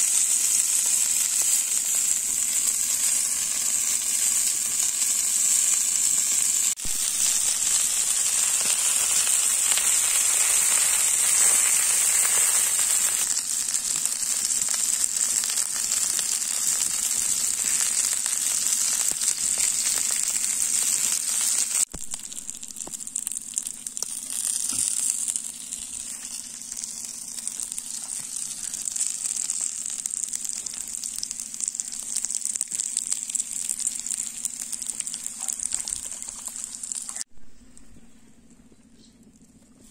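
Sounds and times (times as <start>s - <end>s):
meat sizzling in oil: 0.0s - 37.3s.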